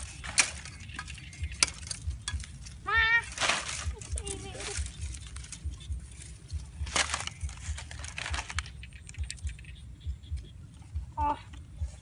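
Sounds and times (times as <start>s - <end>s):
scraping and knocking at dry soil: 0.0s - 12.0s.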